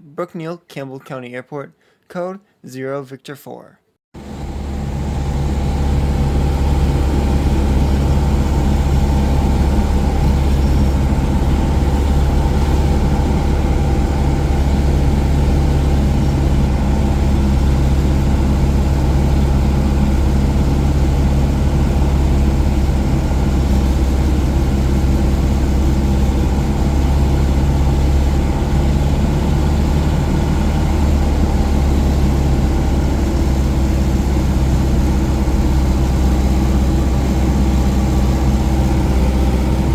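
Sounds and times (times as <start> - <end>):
light aircraft engine droning: 4.2 - 39.9.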